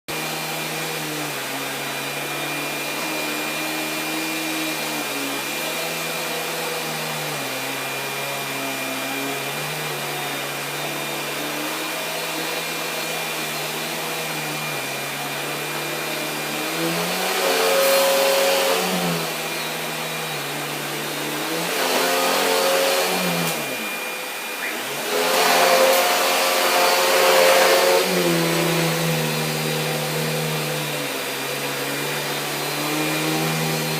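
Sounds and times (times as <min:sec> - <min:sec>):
vacuum cleaner motor: 0:00.1 - 0:33.9.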